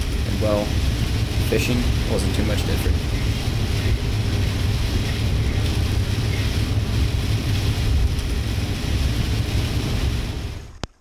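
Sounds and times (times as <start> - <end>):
vehicle rumble and hiss: 0.0 - 10.8
rain on windshield: 0.0 - 11.0.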